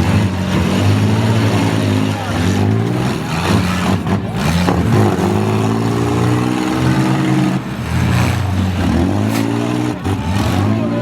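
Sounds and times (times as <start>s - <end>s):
vehicle engines revving: 0.0s - 11.0s.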